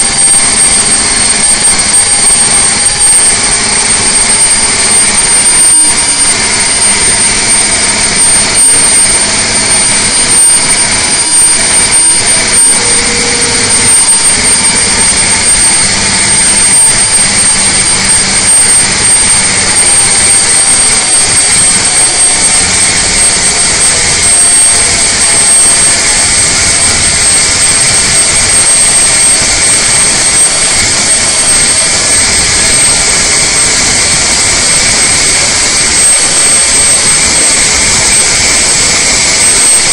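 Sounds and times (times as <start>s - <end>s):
diesel engine at full throttle: 0.0s - 39.9s
steady high whine: 0.0s - 39.9s.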